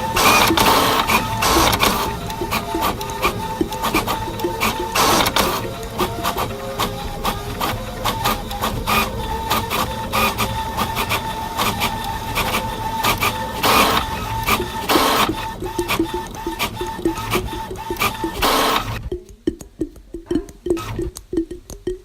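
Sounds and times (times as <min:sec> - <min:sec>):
clatter of mechanical clicks: 0:00.0 - 0:22.0.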